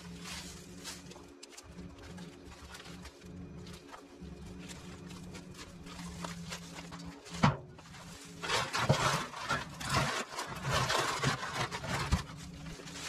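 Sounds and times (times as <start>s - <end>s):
leaves rustling and crackling: 0.0s - 13.0s
low steady hum: 0.0s - 13.0s.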